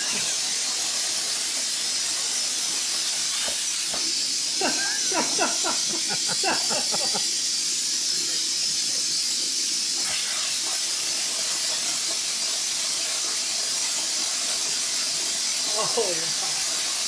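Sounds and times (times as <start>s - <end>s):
arc cutting through steel: 0.0s - 17.0s
plasma cutter torch hissing: 0.0s - 17.0s.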